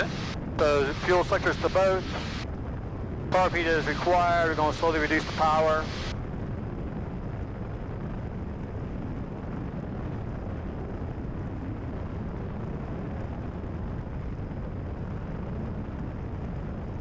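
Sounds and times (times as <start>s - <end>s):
light aircraft cabin drone: 0.0s - 17.0s.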